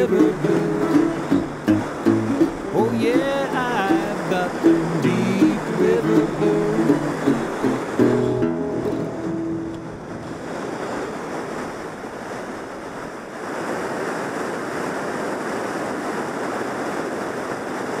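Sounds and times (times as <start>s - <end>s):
river water rushing over rocks: 0.0s - 18.0s.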